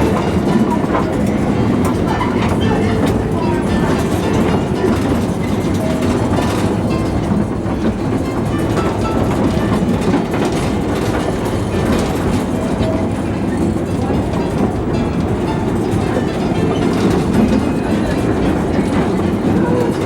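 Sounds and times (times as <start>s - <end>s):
train wheels clacking on rails: 0.0s - 20.0s.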